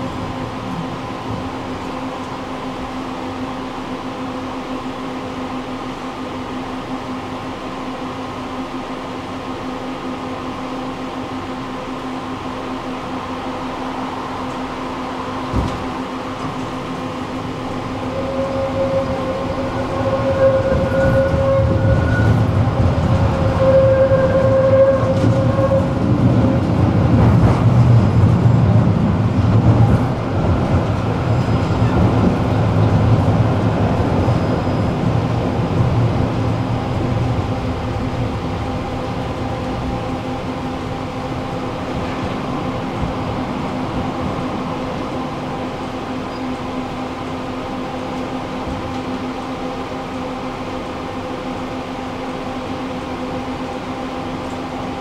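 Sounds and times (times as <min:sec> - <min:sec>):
tram electrical hum: 0:00.0 - 0:55.0.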